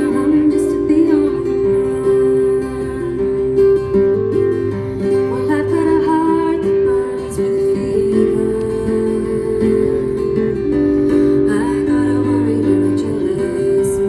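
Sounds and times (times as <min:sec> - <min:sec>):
acoustic guitar strumming melody: 0:00.0 - 0:14.0.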